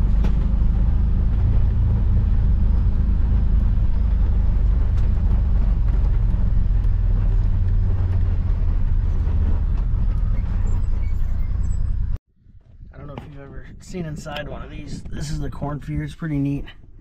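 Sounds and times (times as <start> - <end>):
vehicle driving rumble: 0.0 - 16.8.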